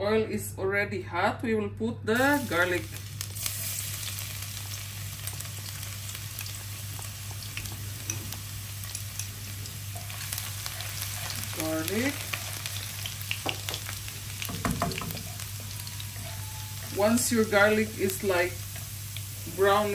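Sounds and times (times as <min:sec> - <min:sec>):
garlic sizzling in oil: 0:02.2 - 0:19.9.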